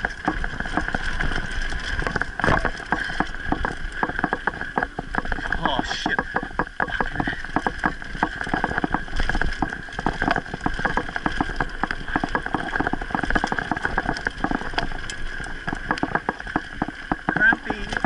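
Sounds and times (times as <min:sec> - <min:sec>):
bike rattling: 0:00.0 - 0:18.0
bike tyres on dirt and gravel: 0:00.0 - 0:18.0
wind rumble: 0:00.0 - 0:18.0.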